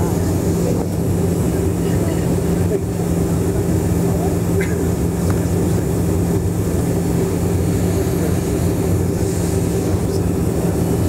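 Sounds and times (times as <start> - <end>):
airliner cabin engine hum: 0.0 - 11.0.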